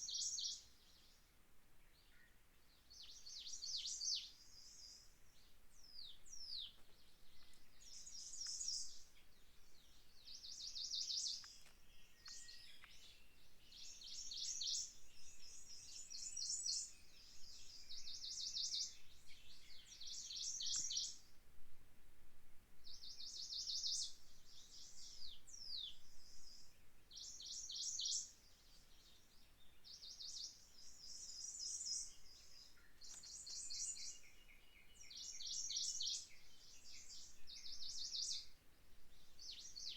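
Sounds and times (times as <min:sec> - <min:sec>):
songbirds singing: 0:00.0 - 0:21.6, 0:22.6 - 0:39.9.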